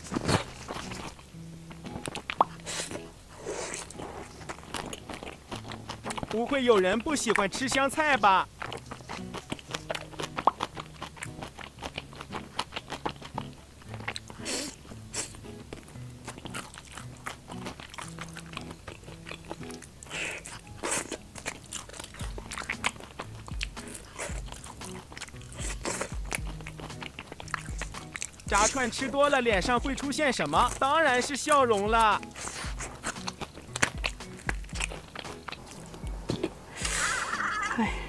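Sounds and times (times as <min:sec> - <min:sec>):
crunching fried food: 0:00.0 - 0:37.4
soft background music: 0:00.0 - 0:38.0.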